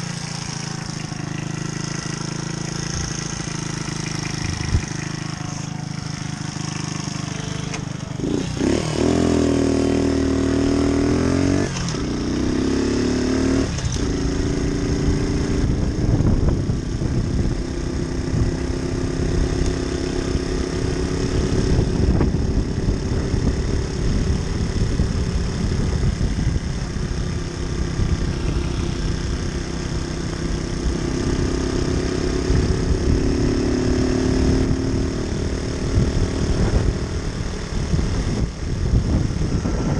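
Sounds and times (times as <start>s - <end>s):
moped engine revving: 0.0s - 39.9s.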